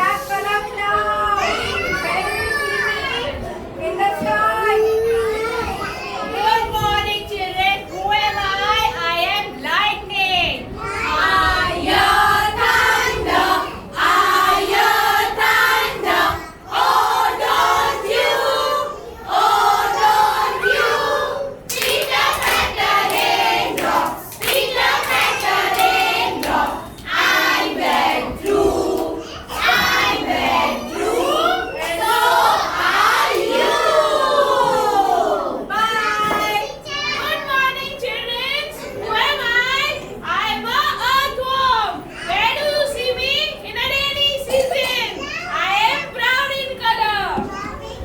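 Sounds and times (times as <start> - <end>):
children singing and chanting: 0.0 - 48.0.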